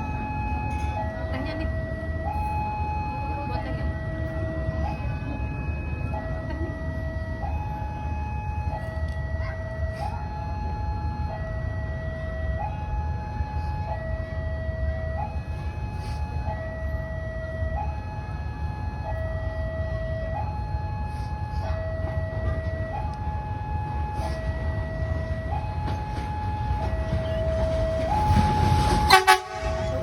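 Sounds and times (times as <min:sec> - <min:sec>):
two-tone crossing alarm: 0:00.0 - 0:30.0.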